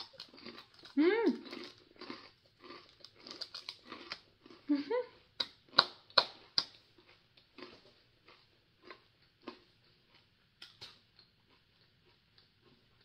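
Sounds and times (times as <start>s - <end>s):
rice crackers crunching: 0.0s - 4.7s, 5.4s - 13.0s.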